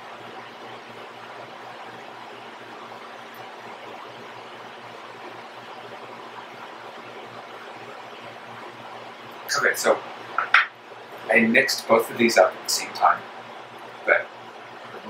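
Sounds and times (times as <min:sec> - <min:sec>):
room tone hiss: 0:00.0 - 0:15.0.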